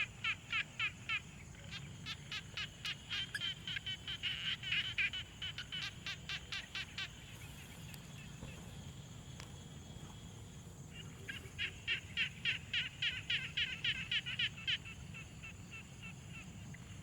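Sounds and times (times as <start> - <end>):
frogs croaking: 0.0 - 17.0.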